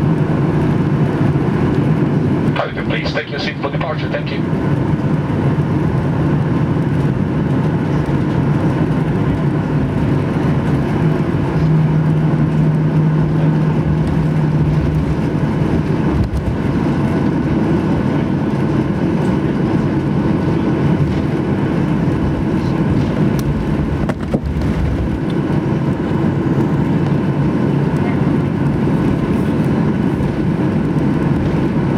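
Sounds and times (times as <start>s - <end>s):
airplane cabin engine rumble: 0.0s - 31.9s.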